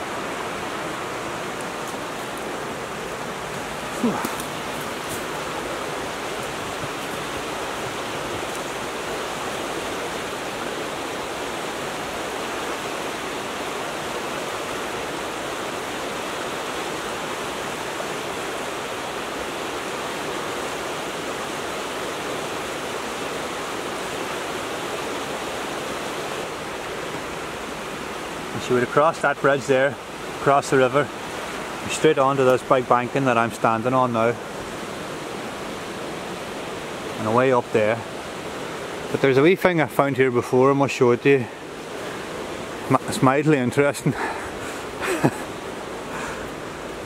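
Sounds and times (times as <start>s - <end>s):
river rushing over rocks: 0.0s - 47.0s.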